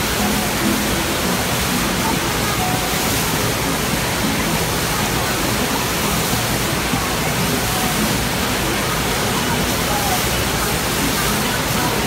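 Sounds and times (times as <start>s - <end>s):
rushing water spraying: 0.0s - 12.0s.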